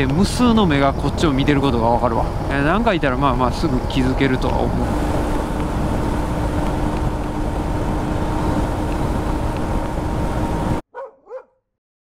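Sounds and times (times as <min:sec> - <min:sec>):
heavy wind rush: 0:00.0 - 0:10.8
motorcycle engine cruising: 0:00.0 - 0:10.8.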